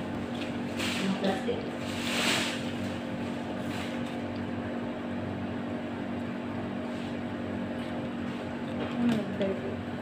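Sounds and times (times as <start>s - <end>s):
low mechanical hum of equipment: 0.0s - 10.0s.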